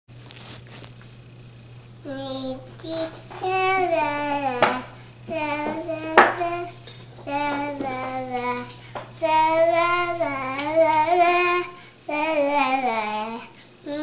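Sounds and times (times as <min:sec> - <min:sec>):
toddler girl singing: 0:02.0 - 0:14.0.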